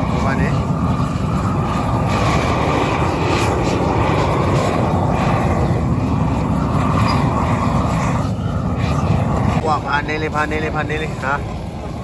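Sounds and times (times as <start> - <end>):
propane torch rushing: 0.0 - 12.0.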